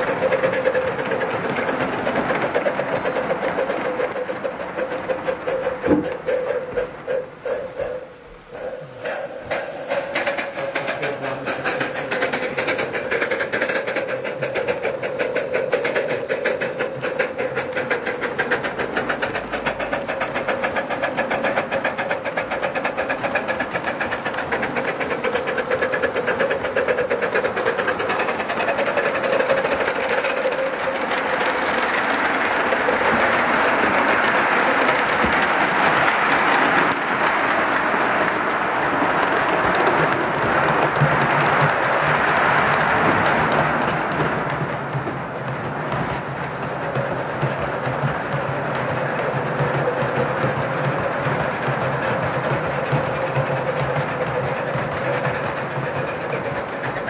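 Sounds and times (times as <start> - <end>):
model steam locomotive chuffing: 0.0 - 57.0.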